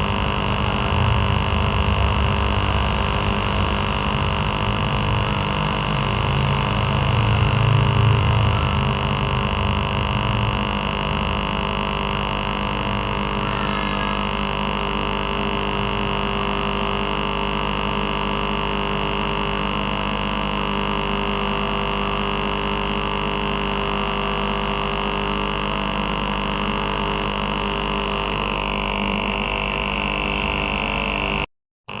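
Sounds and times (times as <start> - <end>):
aquarium air pump humming: 0.0 - 32.0.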